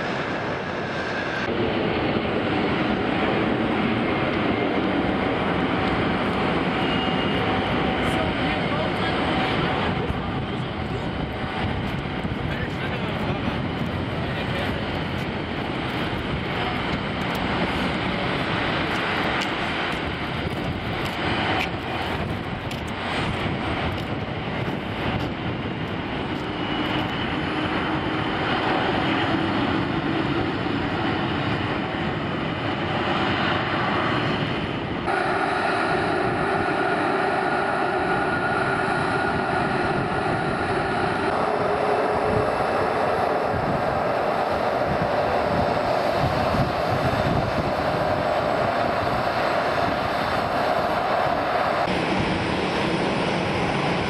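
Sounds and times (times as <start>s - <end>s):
jet engines rushing and whining: 0.0s - 54.0s.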